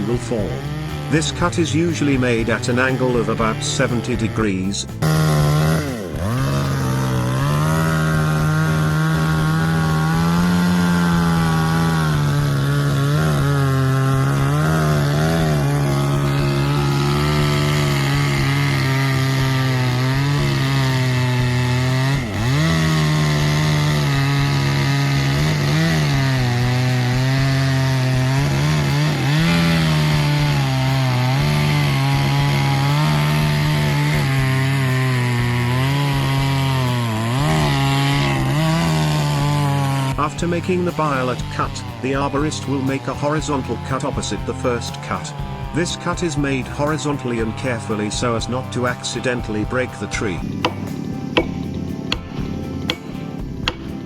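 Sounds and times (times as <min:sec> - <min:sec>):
chainsaw cutting tree trunk: 0:00.0 - 0:54.0.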